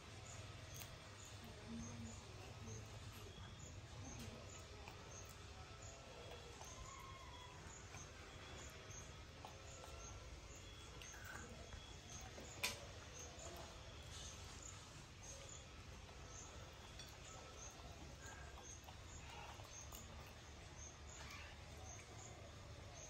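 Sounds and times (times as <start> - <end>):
faint high chirps: 0.0 - 23.0.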